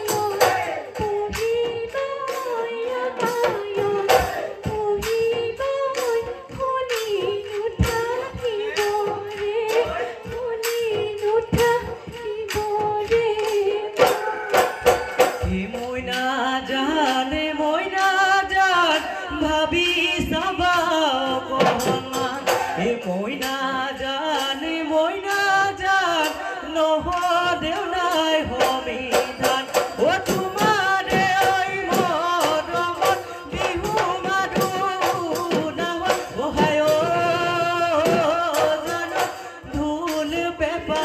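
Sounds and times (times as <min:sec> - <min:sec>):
quick drum beats: 0:00.0 - 0:41.0.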